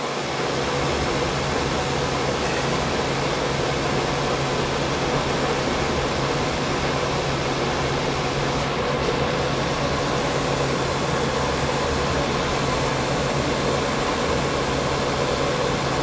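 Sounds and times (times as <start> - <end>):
gas furnace running: 0.0 - 16.0.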